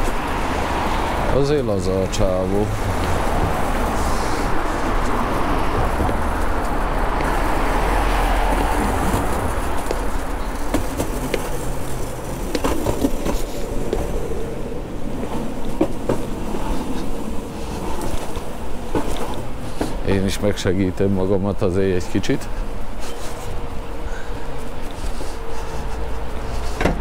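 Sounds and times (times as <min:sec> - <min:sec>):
board wheels rolling on paving: 0:00.0 - 0:27.0.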